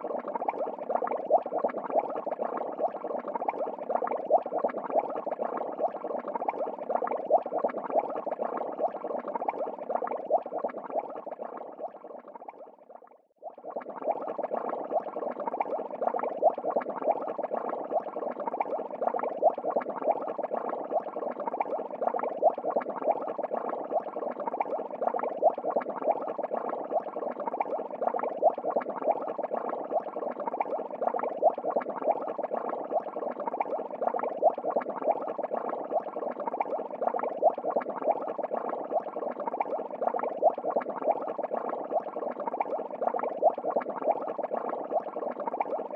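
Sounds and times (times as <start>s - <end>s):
aquarium water bubbling: 0.0s - 45.9s.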